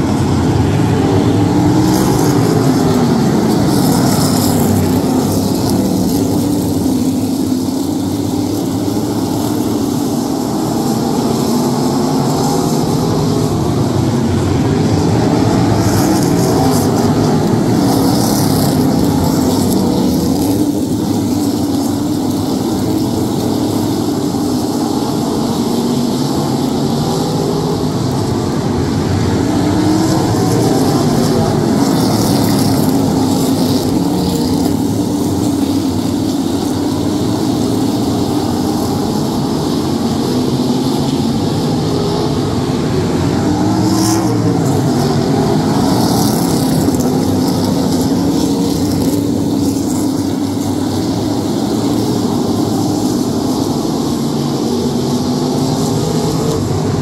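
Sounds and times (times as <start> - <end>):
race car engines droning: 0.0 - 57.0.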